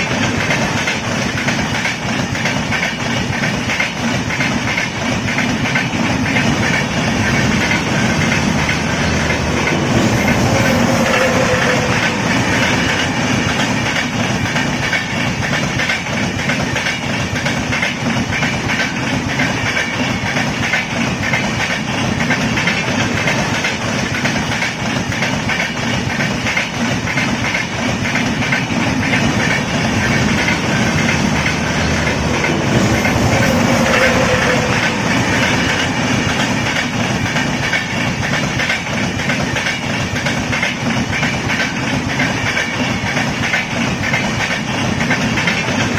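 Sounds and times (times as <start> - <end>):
train rumble: 0.0 - 45.9.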